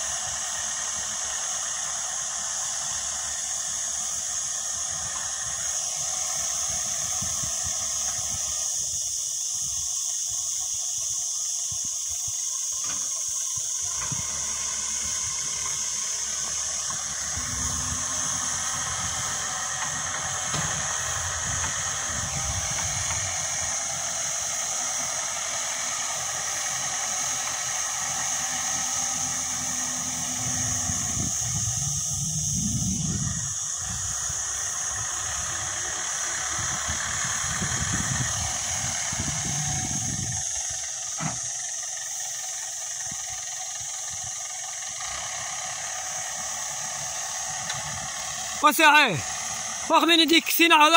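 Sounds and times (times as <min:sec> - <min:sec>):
diesel engine drone: 0:00.0 - 0:50.9
high-pitched hiss: 0:00.0 - 0:50.9.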